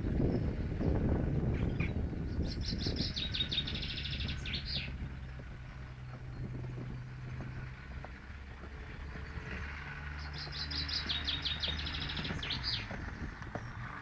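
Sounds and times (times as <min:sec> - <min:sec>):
songbird chirping and trilling: 0:00.0 - 0:14.0
steady low rumble: 0:00.0 - 0:14.0.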